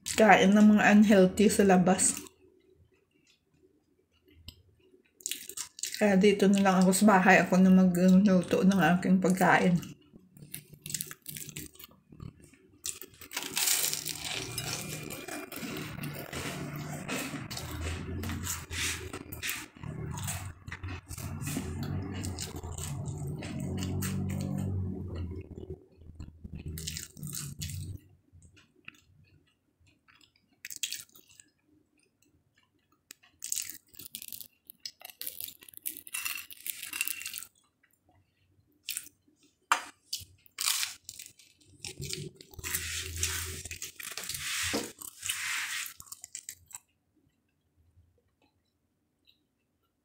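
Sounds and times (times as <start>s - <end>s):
crunching and chewing crispy food: 2.0s - 7.1s, 7.9s - 47.3s.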